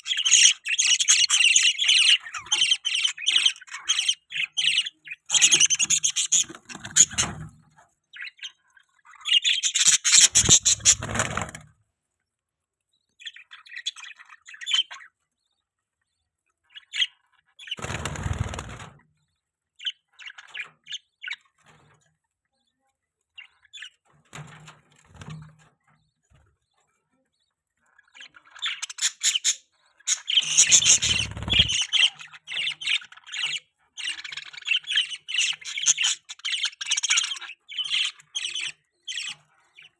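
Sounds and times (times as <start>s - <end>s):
budgerigars chirping and chattering: 0.0s - 11.6s, 13.2s - 15.6s, 16.6s - 18.8s, 19.8s - 21.9s, 23.4s - 24.1s, 26.6s - 39.9s.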